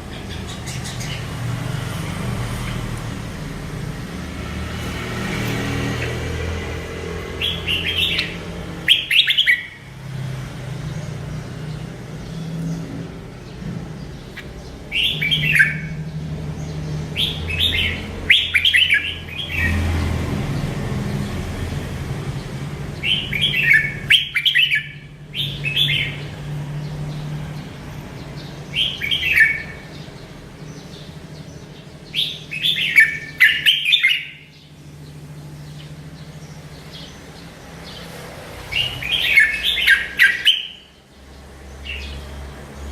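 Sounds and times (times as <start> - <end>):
bulbul chattering song: 0.0 - 42.9.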